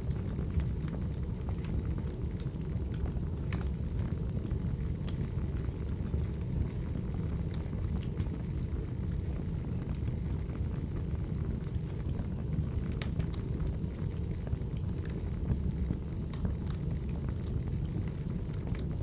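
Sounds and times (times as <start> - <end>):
firewood burning with crackles: 0.0 - 19.0.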